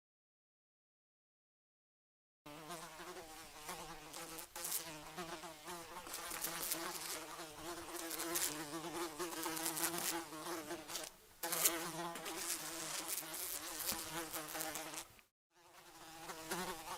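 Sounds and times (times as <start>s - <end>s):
fly buzzing: 2.5s - 16.9s.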